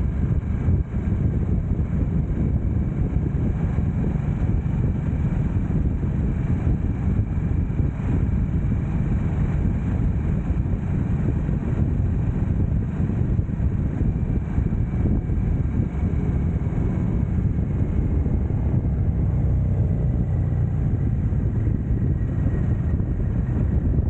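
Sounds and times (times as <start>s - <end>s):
motorcycle engine cruising: 0.0s - 24.0s
wind noise on microphone: 0.0s - 24.0s.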